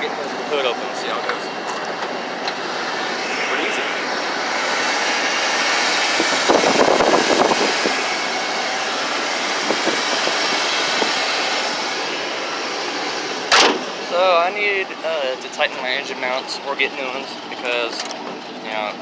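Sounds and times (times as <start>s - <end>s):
car engine idling: 2.2s - 17.8s.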